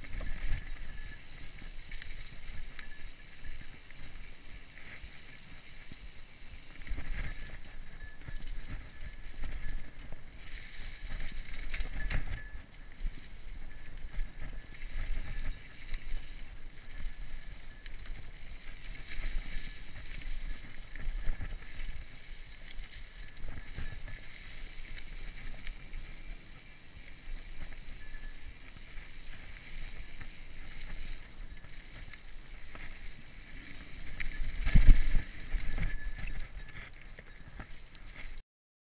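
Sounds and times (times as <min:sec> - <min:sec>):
tyres rolling on dirt and leaves: 0:00.0 - 0:38.4
bike rattling and knocking: 0:06.6 - 0:38.4.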